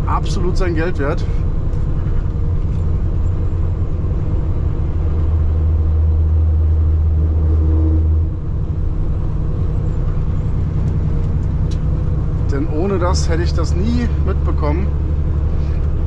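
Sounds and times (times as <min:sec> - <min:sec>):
truck engine and road drone: 0:00.0 - 0:16.0.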